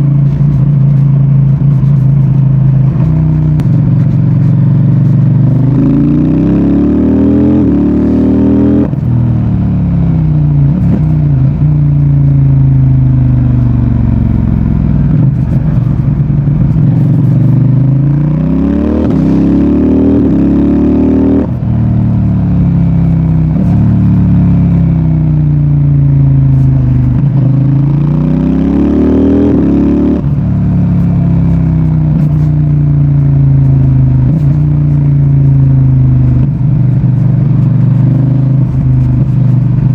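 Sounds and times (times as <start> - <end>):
exhaust pops: 0.0 - 5.8, 8.8 - 20.5, 21.4 - 28.2, 29.4 - 39.9
motorcycle engine revving: 0.0 - 39.9.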